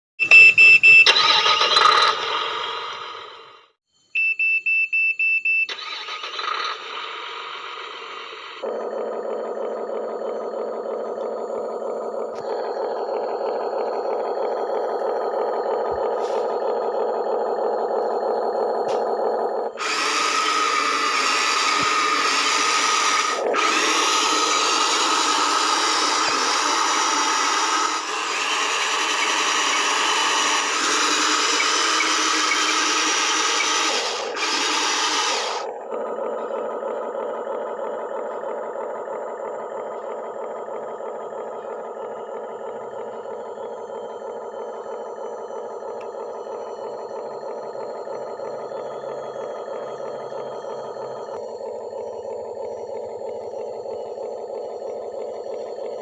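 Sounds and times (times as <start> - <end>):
steady multi-pitched hum: 7.5 - 56.0
small electric motor whirring: 8.6 - 56.0.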